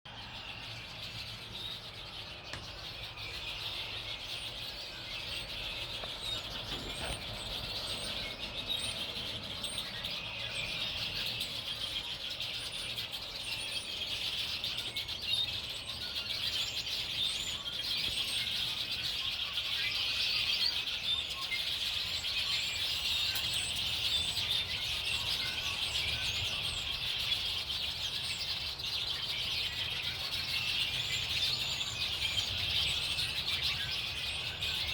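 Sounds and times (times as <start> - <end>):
small birds chirping chorus: 0.0 - 34.9.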